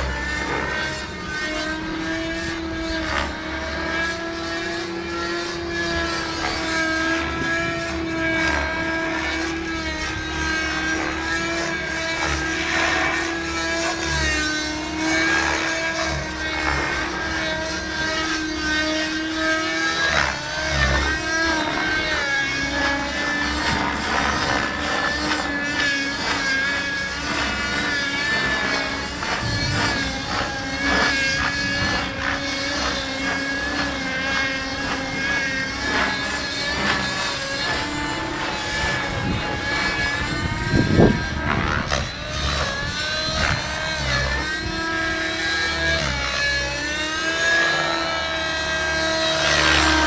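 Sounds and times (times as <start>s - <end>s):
model aircraft engine whining: 0.0s - 50.0s.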